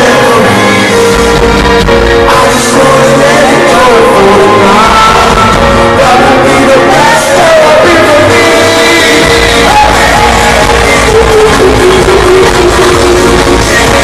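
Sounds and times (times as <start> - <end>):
live band playing: 0.0 - 14.0
person singing long notes: 2.2 - 14.0.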